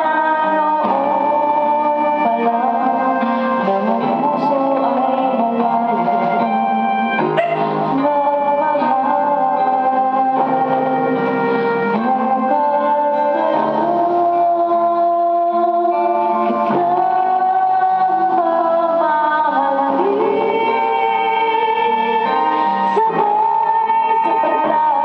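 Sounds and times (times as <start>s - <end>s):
backing track music: 0.0s - 25.0s
woman singing a slow ballad: 0.0s - 25.0s.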